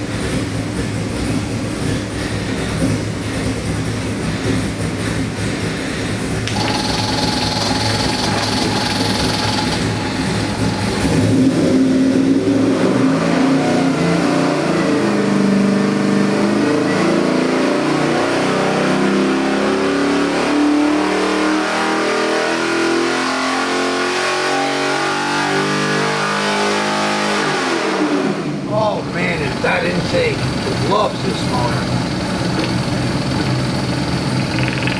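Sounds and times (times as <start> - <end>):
engine revving on dyno: 0.0 - 34.9.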